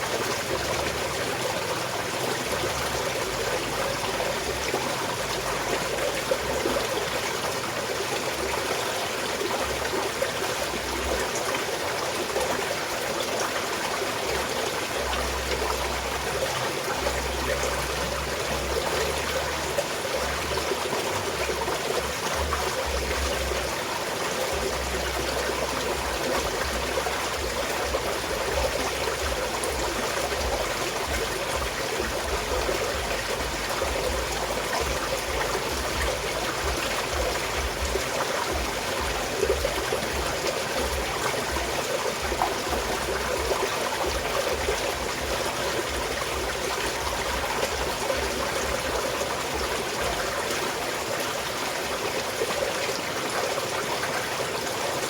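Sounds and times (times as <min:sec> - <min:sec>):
mountain stream trickling: 0:00.0 - 0:55.0
small water splashes: 0:00.0 - 0:55.0.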